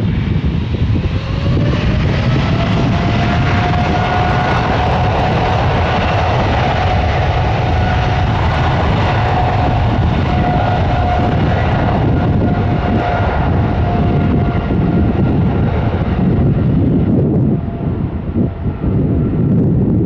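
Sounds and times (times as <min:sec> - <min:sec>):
aircraft engines roaring with whine: 0:00.0 - 0:20.0.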